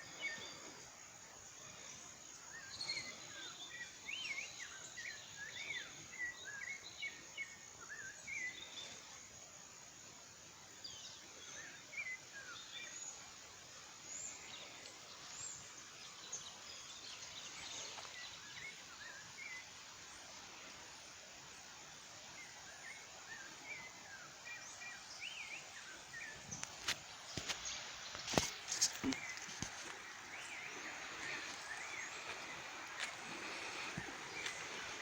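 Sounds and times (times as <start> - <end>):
outdoor hiss: 0.0 - 35.0.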